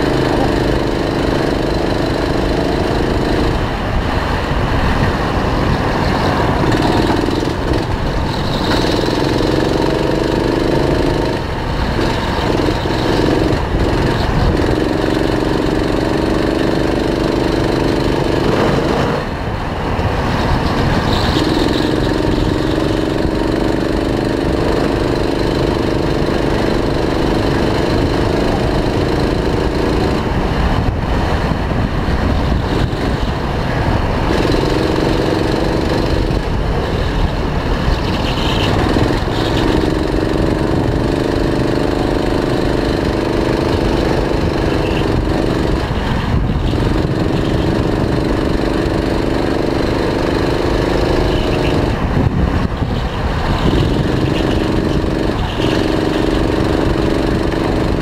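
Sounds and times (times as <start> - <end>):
go-kart engine at speed: 0.0 - 58.0
wind and track noise: 0.0 - 58.0.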